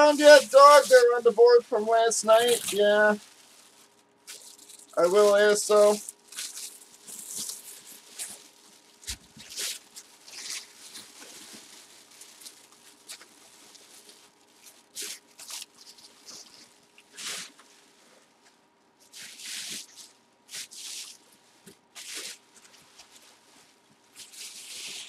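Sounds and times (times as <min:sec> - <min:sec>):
plastic bag and bubble wrap crinkling: 0:00.0 - 0:25.0.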